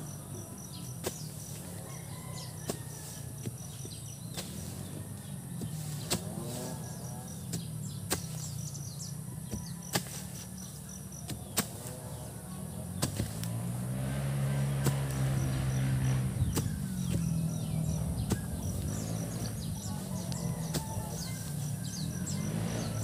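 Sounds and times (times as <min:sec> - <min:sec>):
vehicle engine hum passing: 0:00.0 - 0:23.0.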